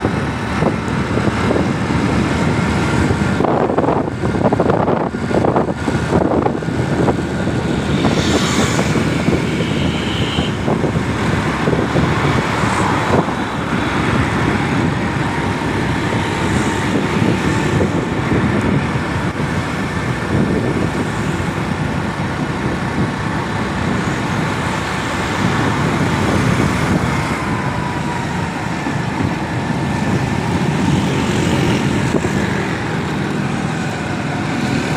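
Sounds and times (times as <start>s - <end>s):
street traffic: 0.0s - 34.9s.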